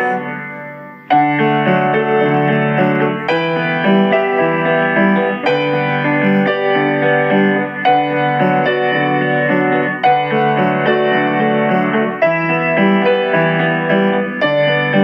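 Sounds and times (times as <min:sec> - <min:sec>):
keyboard music: 0:00.0 - 0:15.0.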